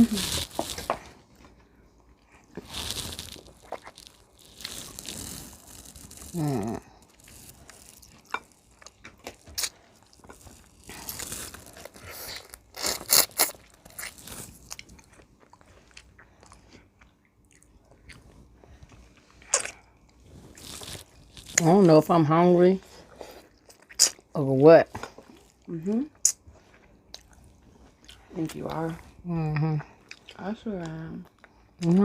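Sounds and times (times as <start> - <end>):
crunching and chewing crispy food: 0.0 - 22.2, 22.8 - 32.0.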